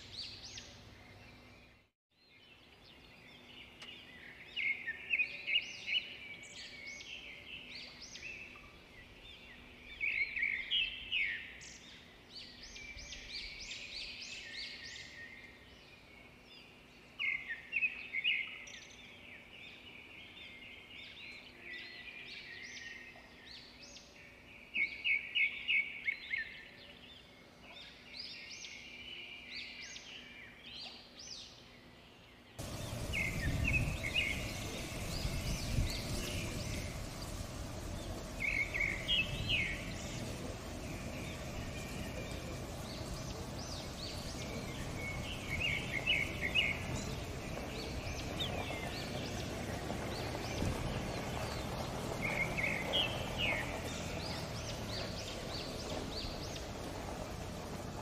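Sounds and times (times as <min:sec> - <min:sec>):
faint outdoor hum: 0:00.0 - 0:58.0
songbirds chirping: 0:00.0 - 0:58.0.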